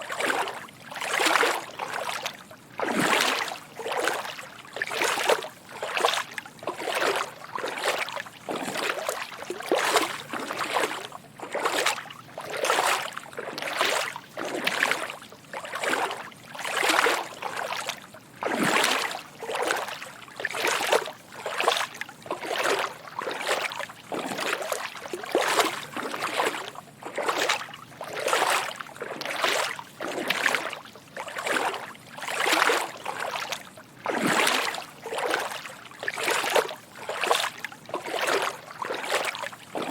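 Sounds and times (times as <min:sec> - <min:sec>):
footsteps wading through water: 0:00.0 - 0:39.9.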